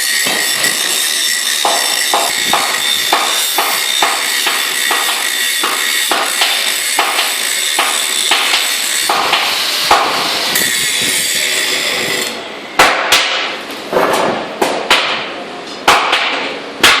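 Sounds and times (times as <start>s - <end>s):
hammer striking metal: 0.0s - 13.6s, 15.9s - 17.0s
steady dense noise: 0.0s - 17.0s.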